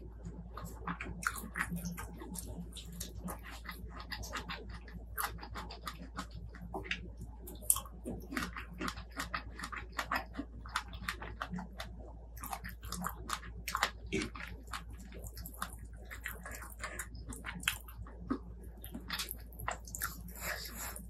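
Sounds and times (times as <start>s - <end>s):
chewing and biting: 0.2s - 21.0s.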